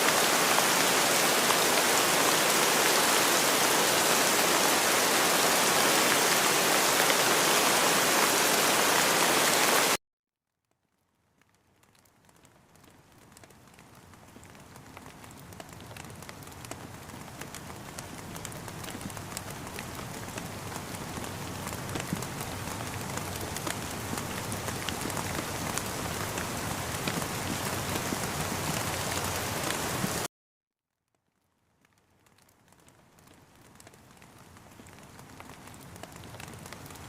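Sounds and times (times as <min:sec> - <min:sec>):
rain falling: 0:00.0 - 0:10.0, 0:11.3 - 0:30.3, 0:31.4 - 0:37.0.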